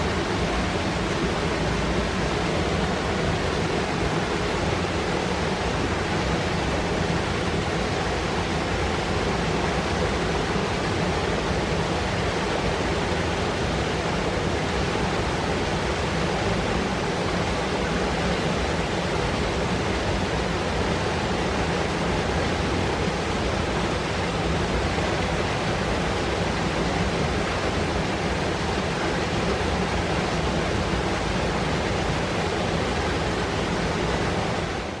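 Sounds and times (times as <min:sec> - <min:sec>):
river rushing over rocks: 0:00.0 - 0:35.0.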